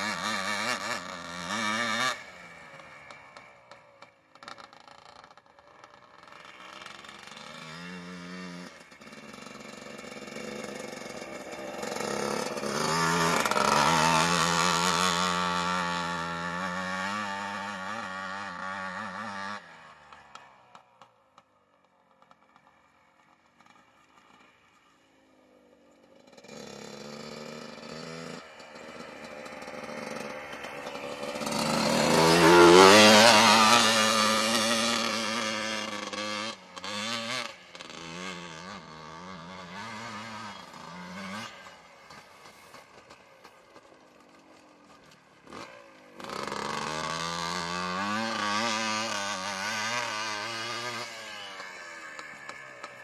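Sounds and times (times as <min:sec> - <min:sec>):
atv engine revving: 0:00.0 - 0:21.5, 0:23.5 - 0:53.0.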